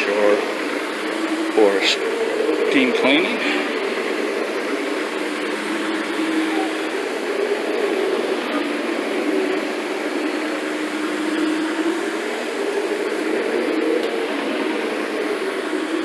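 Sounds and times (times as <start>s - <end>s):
carpet cleaner motor droning: 0.0s - 16.0s.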